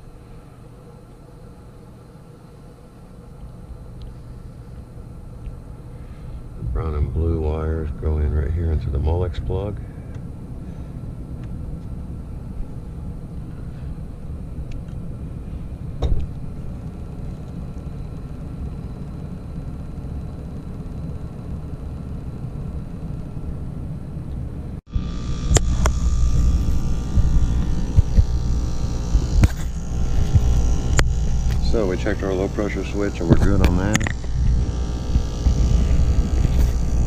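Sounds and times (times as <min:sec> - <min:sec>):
heat pump humming: 0:00.0 - 0:37.0.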